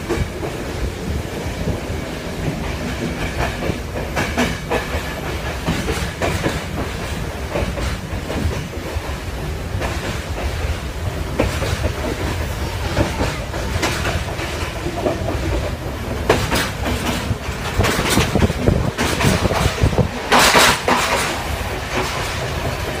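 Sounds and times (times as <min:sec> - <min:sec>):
train rumble: 0:00.0 - 0:23.0
wheels clattering over rail joints: 0:00.0 - 0:23.0.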